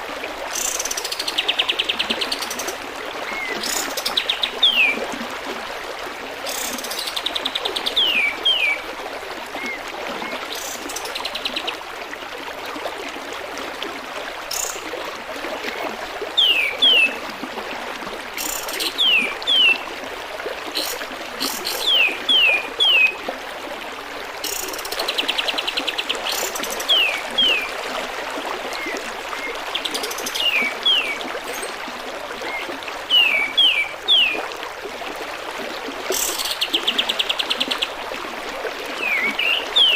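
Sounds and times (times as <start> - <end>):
flowing water babbling: 0.0 - 39.9.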